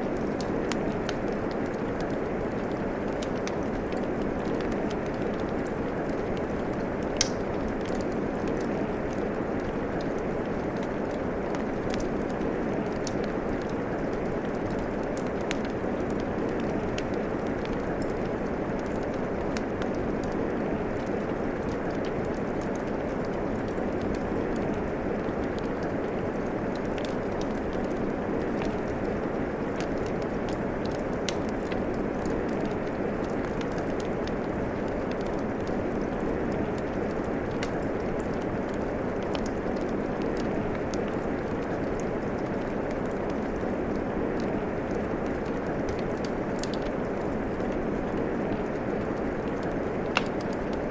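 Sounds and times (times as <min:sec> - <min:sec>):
steady rain hissing: 0:00.0 - 0:50.9
wood fire crackling: 0:00.0 - 0:50.9.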